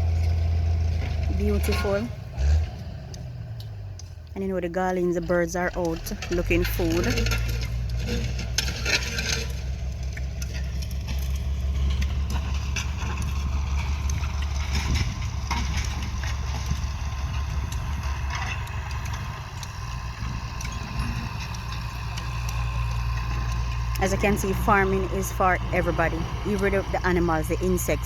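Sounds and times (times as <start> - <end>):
tractor engine humming: 0.0 - 28.0.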